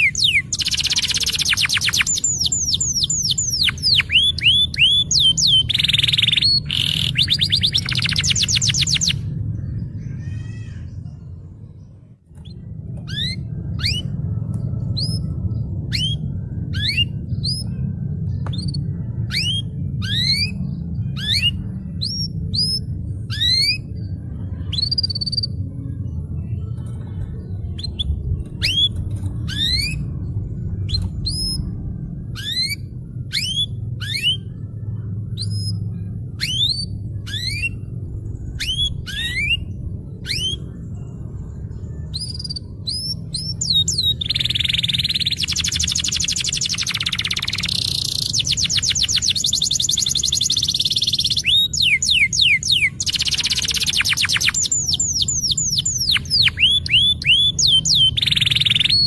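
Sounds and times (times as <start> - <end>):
canary singing: 0.0 - 59.0
low steady hum: 0.0 - 59.0.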